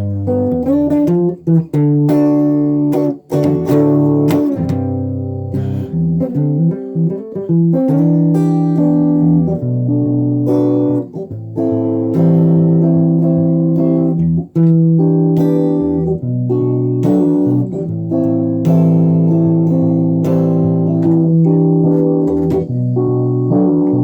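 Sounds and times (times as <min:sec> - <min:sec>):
guitar chords: 0:00.0 - 0:24.0.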